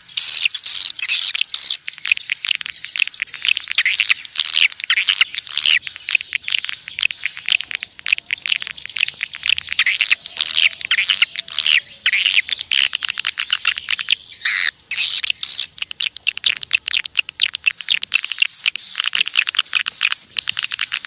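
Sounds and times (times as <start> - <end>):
swiftlets twittering: 0.0 - 21.0.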